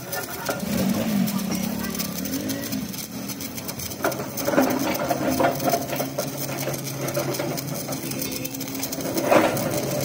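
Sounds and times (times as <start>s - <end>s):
arc welding crackling buzz: 0.0s - 10.0s.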